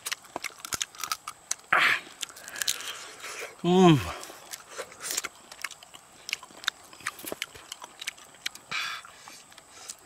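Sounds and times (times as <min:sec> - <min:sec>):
person chewing crab shell: 0:00.0 - 0:10.0.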